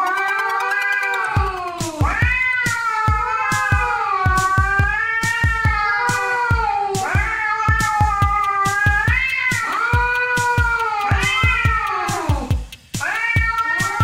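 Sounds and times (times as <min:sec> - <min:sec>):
cats yowling: 0:00.0 - 0:14.0
music with steady beat: 0:00.0 - 0:14.0.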